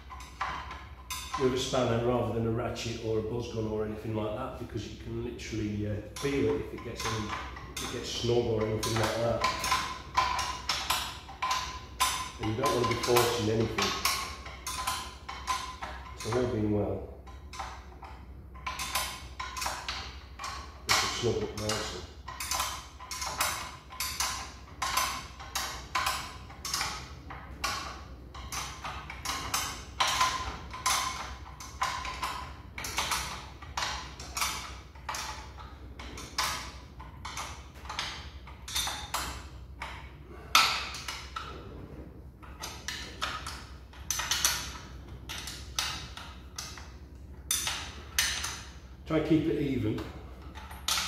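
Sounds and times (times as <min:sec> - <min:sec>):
spanner clinking against bolts: 0:00.0 - 0:03.0, 0:05.4 - 0:41.5, 0:42.4 - 0:49.4, 0:50.0 - 0:51.0.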